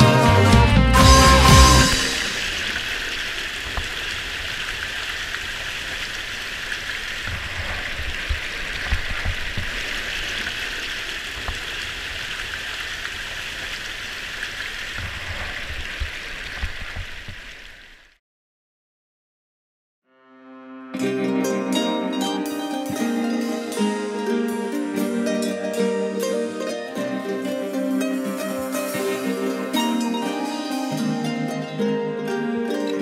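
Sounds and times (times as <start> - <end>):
rain hissing: 0.0 - 18.2, 21.8 - 33.0.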